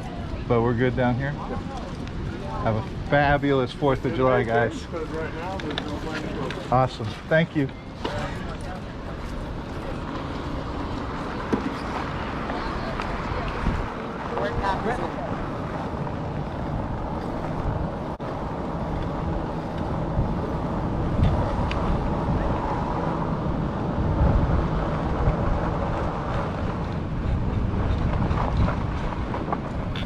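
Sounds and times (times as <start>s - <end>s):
wind rush on microphone: 0.0s - 30.0s
bicycle tyre noise: 1.3s - 30.0s.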